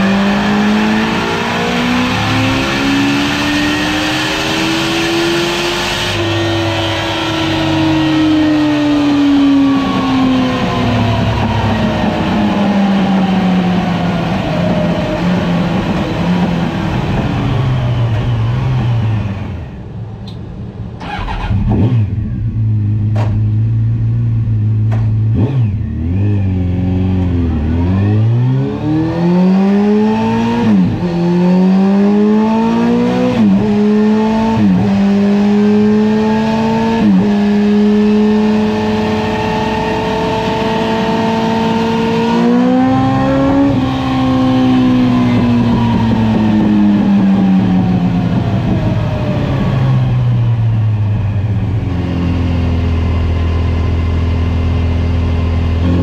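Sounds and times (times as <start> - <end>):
motorcycle engine revving on dyno: 0.0 - 17.1, 21.0 - 56.0.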